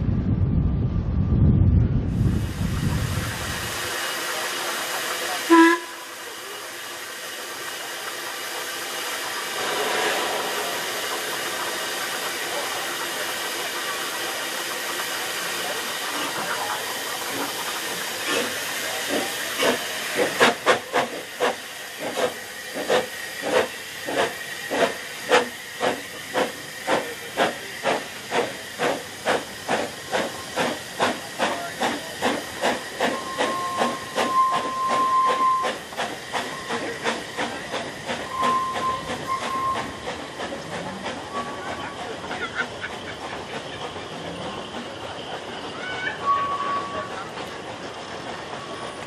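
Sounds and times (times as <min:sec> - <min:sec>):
steam locomotive hissing: 0:02.3 - 0:49.0
locomotive exhaust beats: 0:07.0 - 0:49.0.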